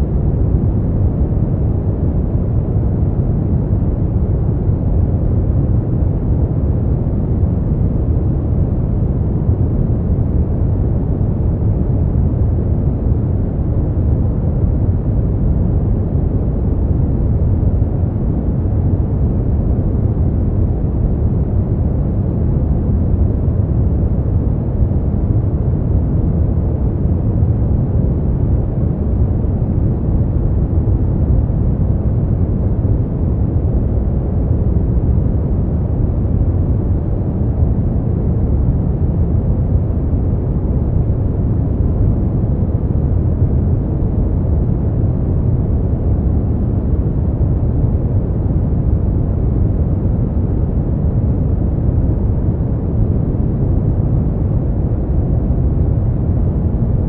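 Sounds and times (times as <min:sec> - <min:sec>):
deep rumbling brown noise: 0:00.0 - 0:57.0.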